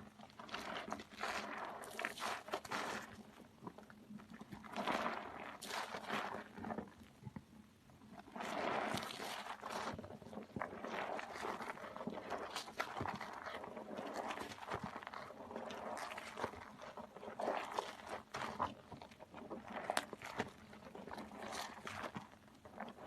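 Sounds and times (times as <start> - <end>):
wet soap squishing: 0.0 - 23.0.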